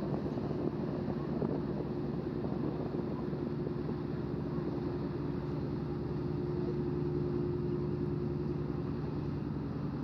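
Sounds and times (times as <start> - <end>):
ship diesel engine throb: 0.0 - 10.0
steady higher hum: 0.0 - 10.0.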